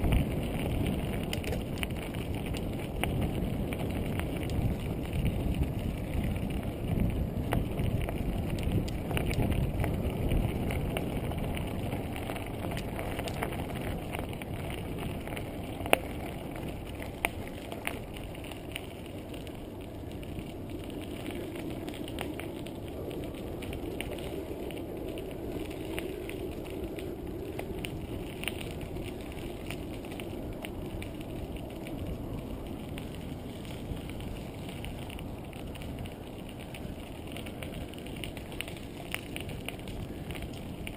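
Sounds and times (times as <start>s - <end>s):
bicycle tyres and frame rattle: 0.0s - 40.9s.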